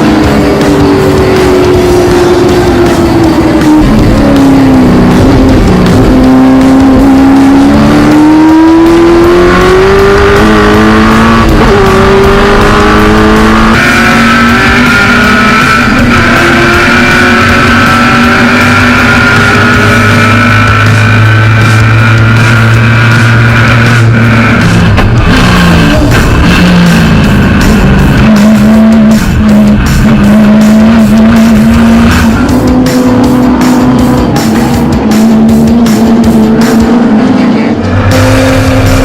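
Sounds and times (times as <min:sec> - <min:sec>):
race car engine accelerating: 0:00.0 - 0:39.0.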